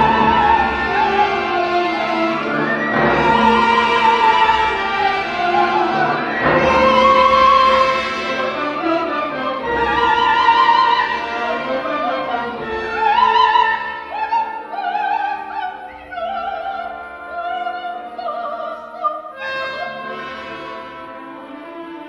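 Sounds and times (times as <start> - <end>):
operatic singing with vibrato: 0.0 - 22.0
orchestra playing: 0.0 - 22.0.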